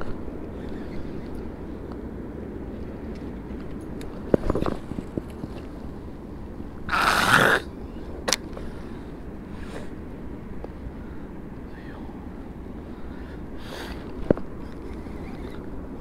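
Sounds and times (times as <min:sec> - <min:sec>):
wind and water noise: 0:00.0 - 0:16.0.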